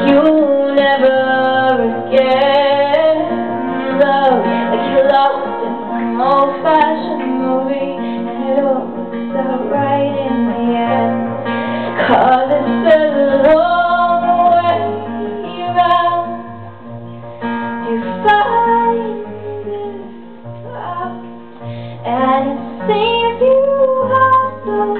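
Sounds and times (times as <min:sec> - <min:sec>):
woman singing: 0:00.0 - 0:16.7, 0:17.7 - 0:24.9
acoustic guitars: 0:00.0 - 0:24.9.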